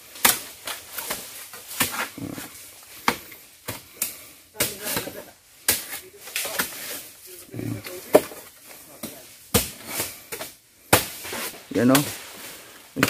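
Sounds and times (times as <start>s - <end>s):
machete chopping palm fronds: 0.0s - 7.1s, 7.8s - 12.3s.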